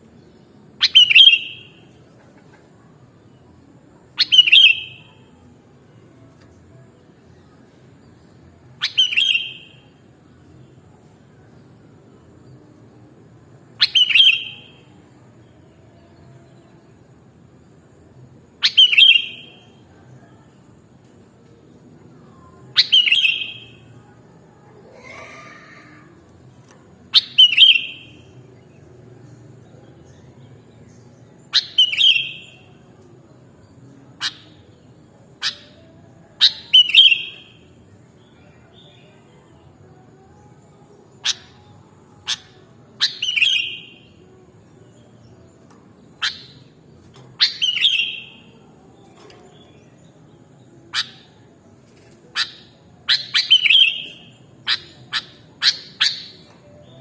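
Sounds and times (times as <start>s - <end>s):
bird chirping phrases: 0.0s - 57.0s.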